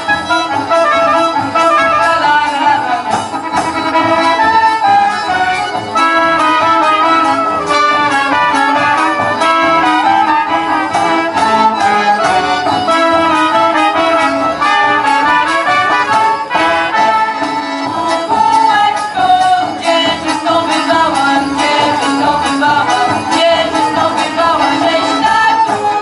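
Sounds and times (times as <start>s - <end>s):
accordions playing: 0.0s - 26.0s
brass instruments: 0.0s - 26.0s
double bass: 0.0s - 26.0s.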